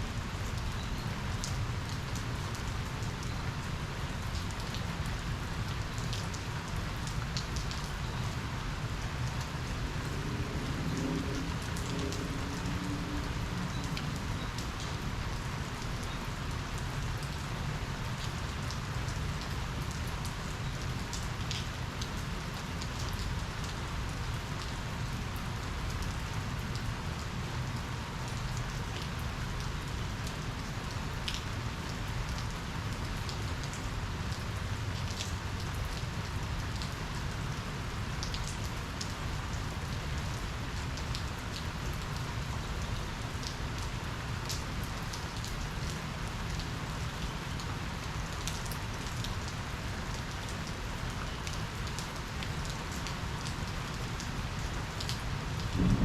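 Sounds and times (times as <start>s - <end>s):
steady rain falling: 0.0s - 56.0s
raindrops ticking close by: 0.1s - 56.0s.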